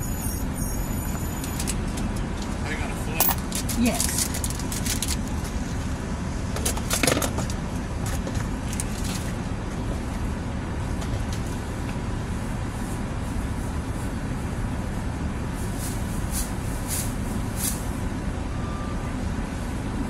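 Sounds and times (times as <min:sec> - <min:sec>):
minivan engine idling: 0:00.0 - 0:20.0.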